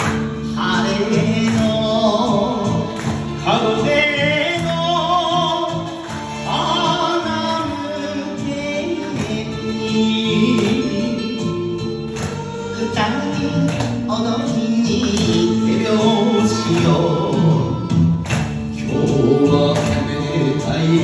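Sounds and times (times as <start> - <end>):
backing band: 0.0 - 21.0.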